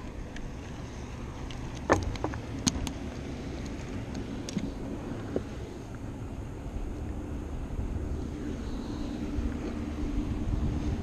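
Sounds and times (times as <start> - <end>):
boat motors rumbling: 0.0 - 11.0
wind on water: 0.0 - 11.0.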